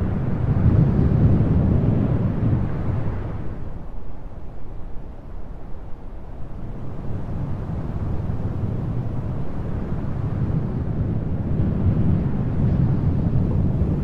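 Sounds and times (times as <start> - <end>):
wind and road noise in car: 0.0 - 14.0.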